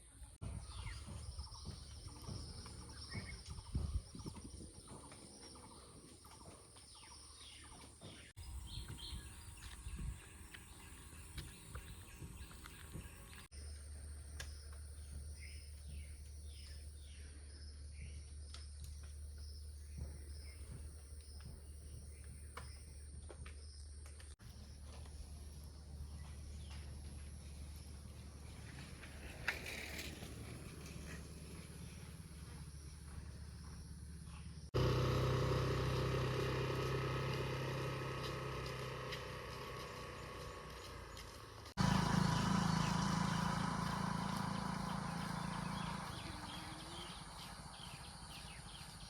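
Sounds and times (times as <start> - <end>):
small birds chirping: 0.0 - 23.9, 24.5 - 34.8, 35.5 - 49.0
vehicle engine hum: 0.0 - 49.0.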